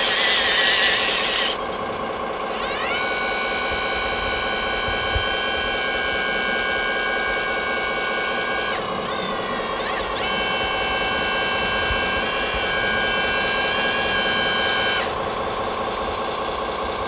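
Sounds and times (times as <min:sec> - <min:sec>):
excavator motors whining: 0:00.0 - 0:17.0.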